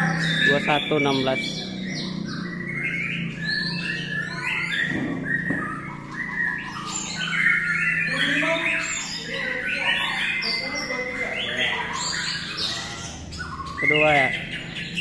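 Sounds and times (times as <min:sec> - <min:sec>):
birds whistling and chirping: 0:00.0 - 0:15.0.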